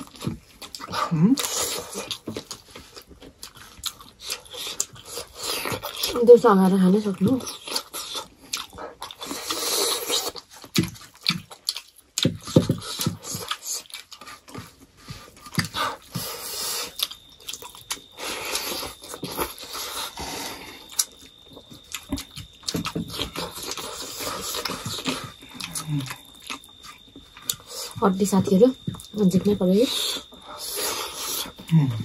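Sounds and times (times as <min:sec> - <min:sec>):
wet chewing and lip smacks: 0:00.0 - 0:06.2, 0:07.4 - 0:28.0.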